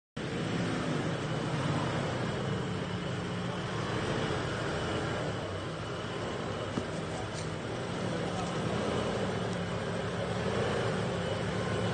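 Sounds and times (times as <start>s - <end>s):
truck engine running: 0.2s - 11.9s.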